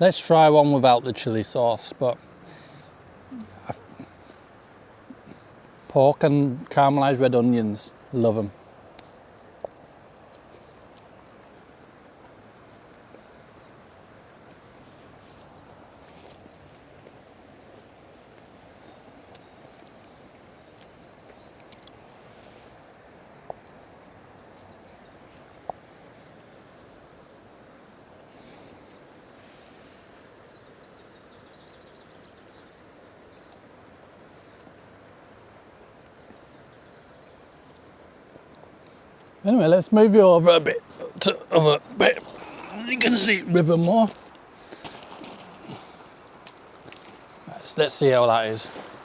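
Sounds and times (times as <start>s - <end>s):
outdoor background rush: 0.0s - 49.0s
songbird calling: 0.0s - 49.0s.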